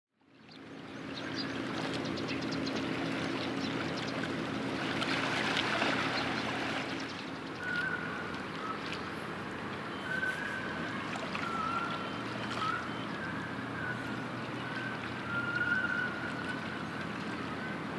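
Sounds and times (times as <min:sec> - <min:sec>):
water lapping and trickling: 0:00.1 - 0:17.9
boat engine hum: 0:00.2 - 0:17.9.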